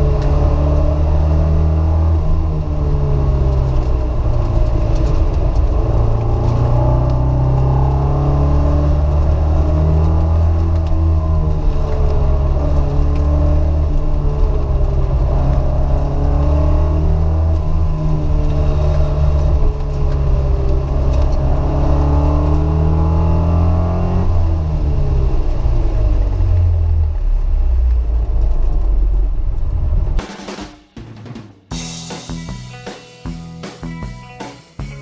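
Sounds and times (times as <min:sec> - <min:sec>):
car engine pulling hard: 0:00.0 - 0:30.2.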